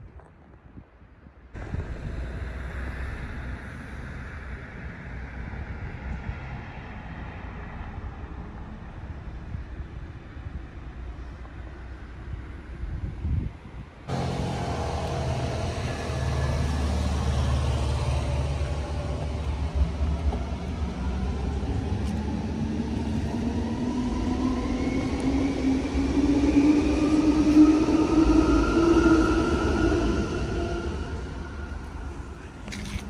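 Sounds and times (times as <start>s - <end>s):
vehicle low rumble: 0.0s - 26.2s, 30.0s - 33.0s.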